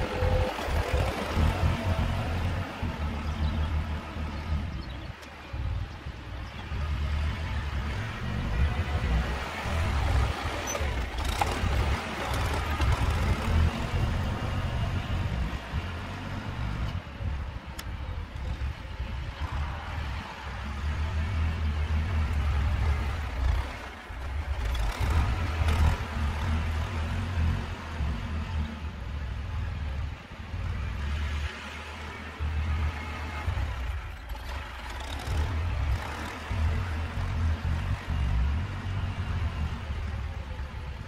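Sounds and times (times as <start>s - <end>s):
tractor diesel engine droning: 0.0s - 41.0s.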